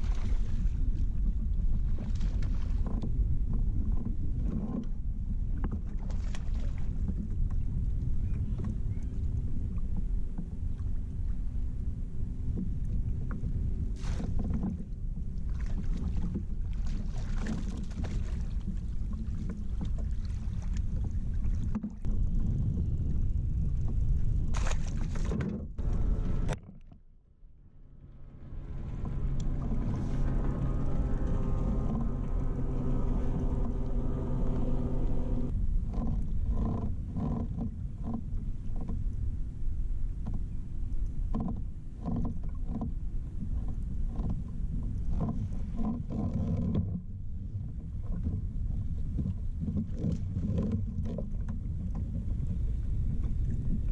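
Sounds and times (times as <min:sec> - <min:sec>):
wind and water rumbling: 0:00.0 - 0:53.9.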